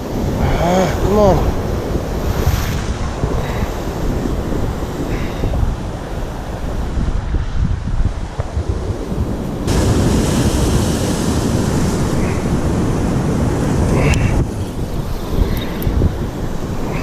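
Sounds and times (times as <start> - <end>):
sea waves washing over rocks: 0.0 - 17.0
wind buffeting microphone: 0.0 - 17.0.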